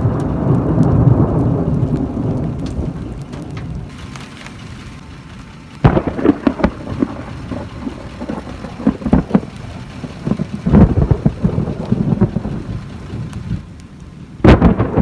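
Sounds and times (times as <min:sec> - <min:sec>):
rain falling: 0:00.0 - 0:15.0
thunder crackling and rumbling: 0:00.0 - 0:15.0.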